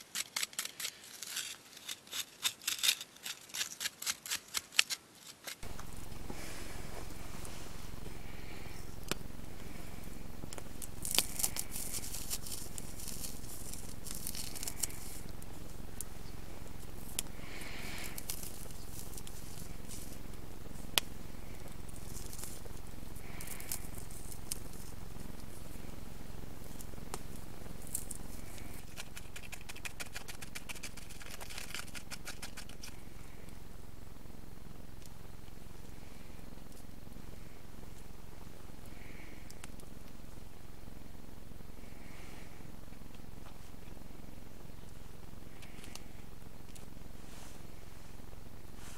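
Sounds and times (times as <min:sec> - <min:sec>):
dry material crackling: 0:00.0 - 0:40.2.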